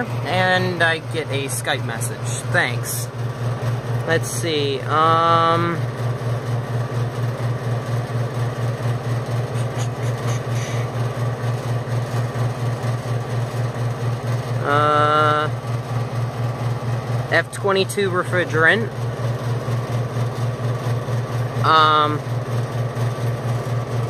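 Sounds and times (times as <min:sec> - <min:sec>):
fan noise: 0:00.0 - 0:24.0
pulsing compressor hum: 0:00.0 - 0:24.0.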